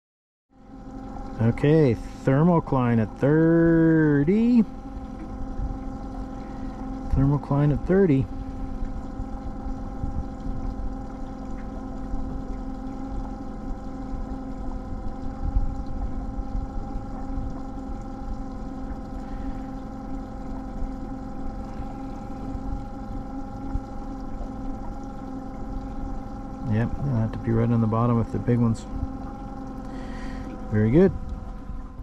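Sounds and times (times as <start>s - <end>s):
boat motor running: 0.5s - 32.0s.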